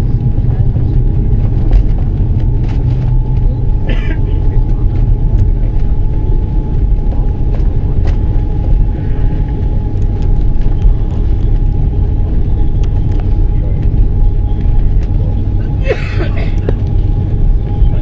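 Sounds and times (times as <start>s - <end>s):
aircraft cabin rumble: 0.0s - 18.0s
thin steady whine: 0.0s - 18.0s.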